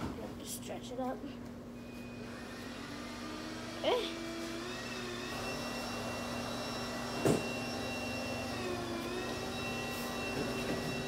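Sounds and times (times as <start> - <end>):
electric motor whirring: 2.1 - 11.0.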